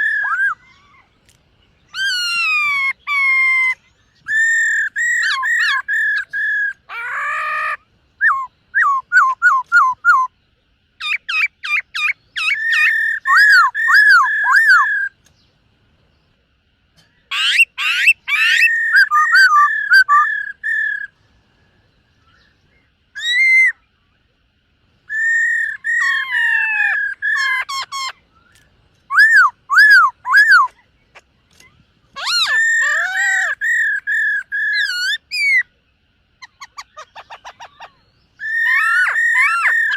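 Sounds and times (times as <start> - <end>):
bird singing whistled notes: 0.0 - 16.4, 17.0 - 24.3, 25.0 - 35.7, 36.4 - 39.9.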